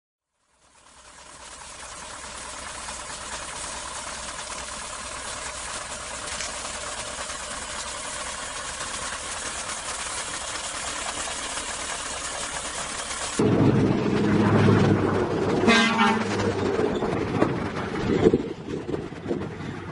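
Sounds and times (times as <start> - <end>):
diesel engines idling: 0.4 - 19.9.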